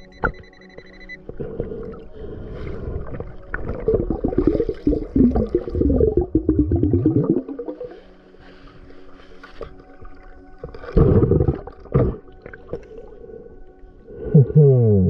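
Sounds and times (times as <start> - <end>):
underwater churning and scraping: 1.2 - 13.9.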